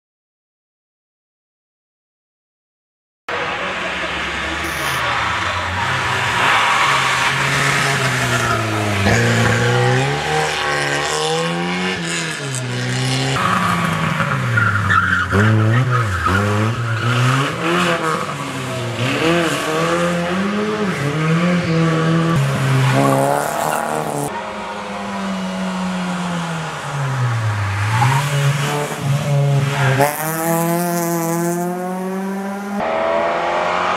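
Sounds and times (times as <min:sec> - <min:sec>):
car engines revving: 0:03.3 - 0:33.9.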